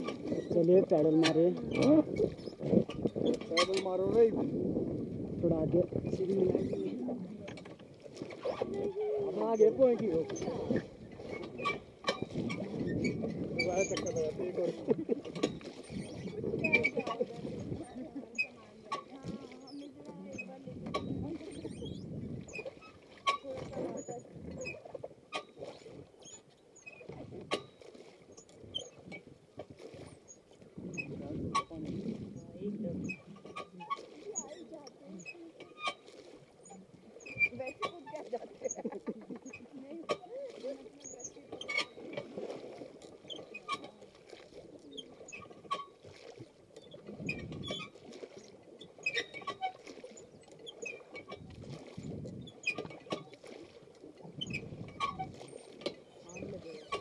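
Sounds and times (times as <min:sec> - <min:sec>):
paddles dipping in water: 0:00.0 - 0:57.0
water dripping and lapping: 0:00.0 - 0:57.0.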